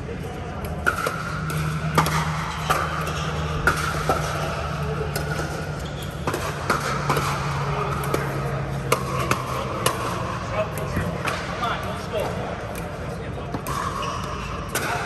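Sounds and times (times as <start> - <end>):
paddles hitting plastic ball: 0.5 - 12.9.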